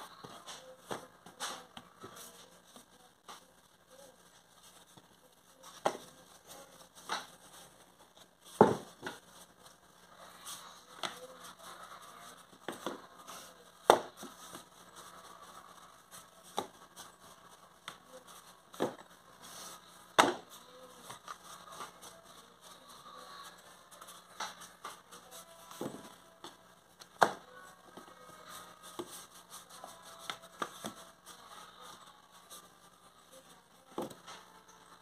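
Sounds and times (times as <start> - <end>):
rolling pin rolling over dough: 0.0 - 35.0.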